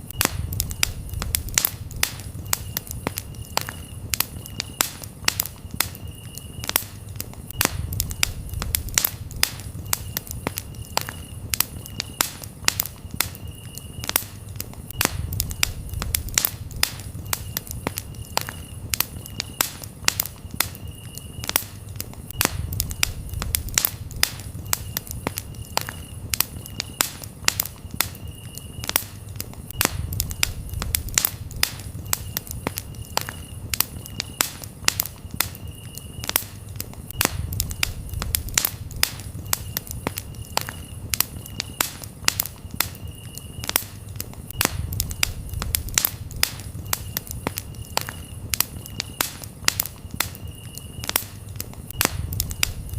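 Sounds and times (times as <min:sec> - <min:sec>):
campfire crackling and popping: 0:00.0 - 0:52.9
crickets chirping: 0:00.1 - 0:52.9.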